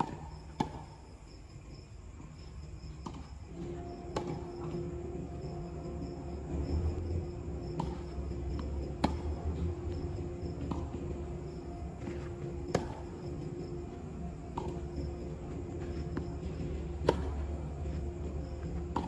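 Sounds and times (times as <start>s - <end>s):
tennis ball bouncing on court: 0.0s - 1.0s, 2.9s - 19.0s
tennis racket hitting ball: 0.0s - 1.0s, 3.0s - 5.3s, 6.5s - 19.0s
steady low hum: 0.0s - 19.0s.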